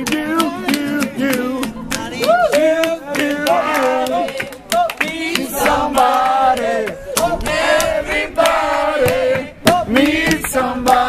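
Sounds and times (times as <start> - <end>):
group singing loudly: 0.0 - 11.0.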